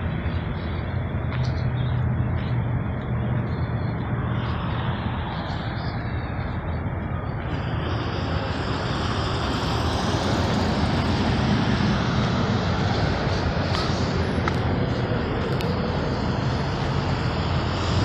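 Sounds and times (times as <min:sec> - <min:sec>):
road traffic noise: 0:00.0 - 0:18.0
vehicle passing: 0:00.0 - 0:18.0.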